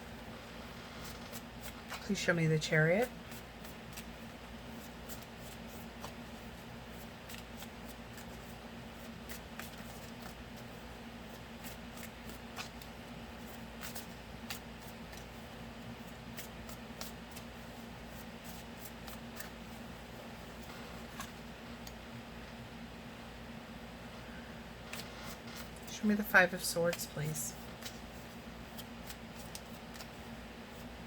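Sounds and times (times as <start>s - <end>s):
cards being shuffled: 0.6s - 2.1s, 3.0s - 22.0s, 24.9s - 26.0s, 26.9s - 31.0s.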